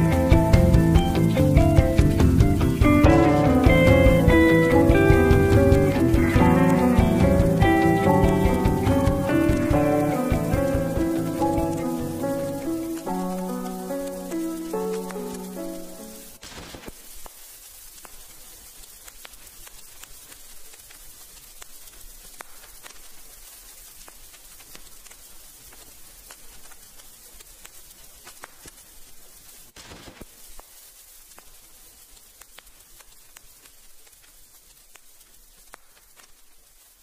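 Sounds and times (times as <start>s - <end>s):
sharp clicks: 0.0s - 17.4s, 18.0s - 28.8s, 32.2s - 36.6s
crackling hiss: 0.0s - 37.0s.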